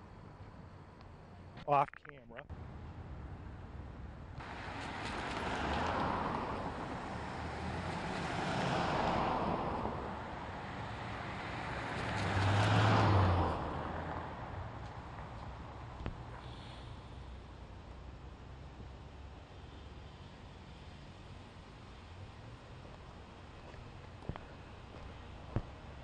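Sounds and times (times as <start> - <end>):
vehicles driving past: 2.5 - 26.0.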